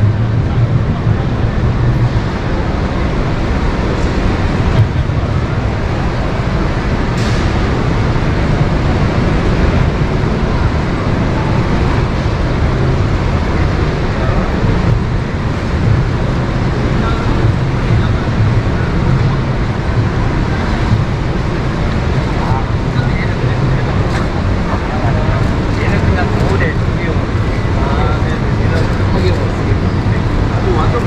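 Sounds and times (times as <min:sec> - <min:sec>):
exhibition hall background noise: 0:00.0 - 0:31.0
faint voices: 0:00.0 - 0:31.0.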